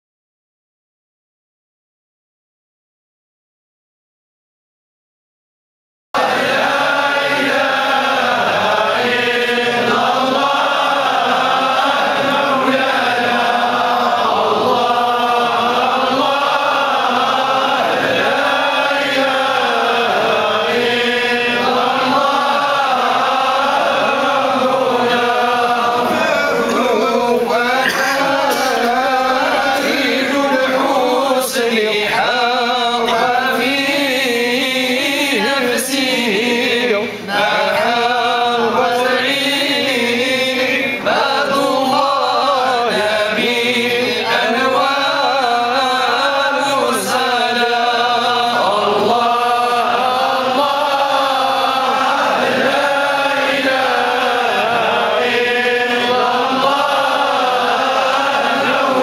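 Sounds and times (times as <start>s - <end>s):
men chanting in unison: 6.2s - 59.0s.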